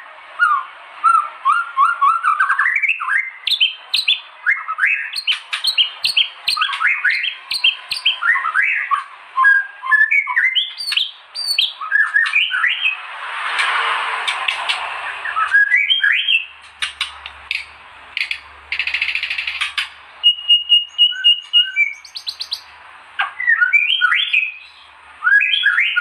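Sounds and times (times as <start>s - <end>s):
songbird whistling rapid notes: 0.4s - 13.0s, 15.1s - 22.7s, 23.3s - 26.0s.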